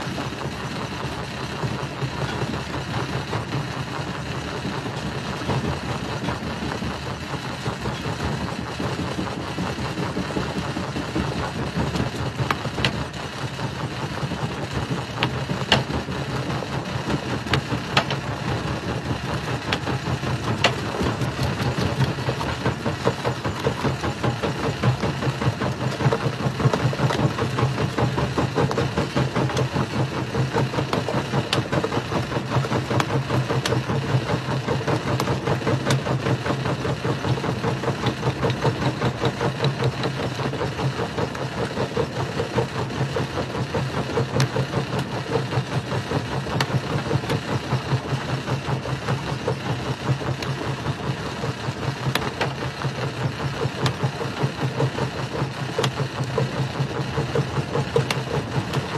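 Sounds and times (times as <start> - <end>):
rock crusher pulsing drone: 0.0 - 58.9.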